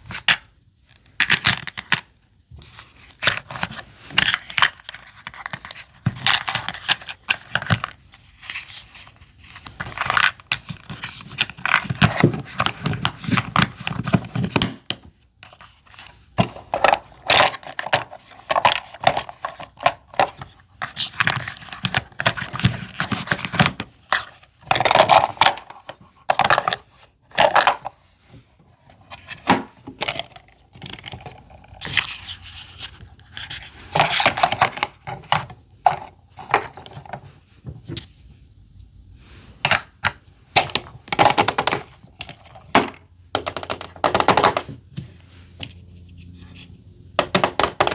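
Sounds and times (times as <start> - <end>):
plastic items clicking and tapping: 0.1 - 8.8, 9.6 - 28.0, 29.1 - 32.1, 33.4 - 38.1, 39.6 - 45.1, 47.2 - 47.9.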